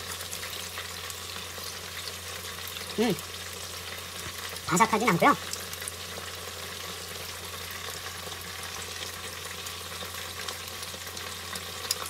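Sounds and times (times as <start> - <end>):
chicken wings deep-frying in oil: 0.0 - 12.0.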